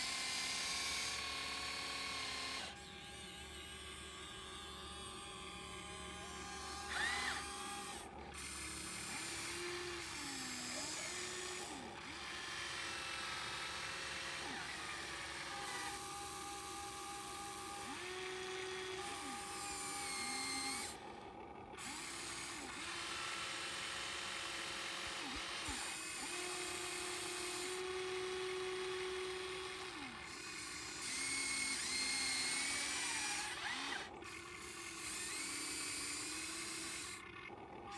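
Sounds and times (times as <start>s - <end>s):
small electric motors whining: 0.0s - 37.9s.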